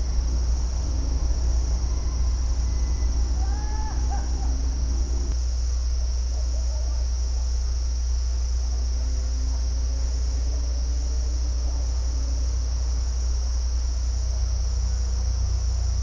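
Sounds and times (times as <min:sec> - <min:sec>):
constant low rumble: 0:00.0 - 0:16.0
high-pitched insect chorus: 0:00.0 - 0:16.0.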